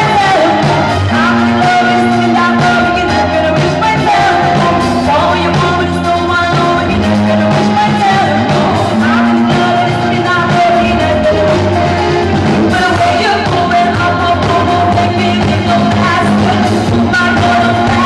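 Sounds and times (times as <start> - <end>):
drums: 0.0 - 18.0
guitar: 0.0 - 18.0
woman singing into microphone: 0.0 - 18.0.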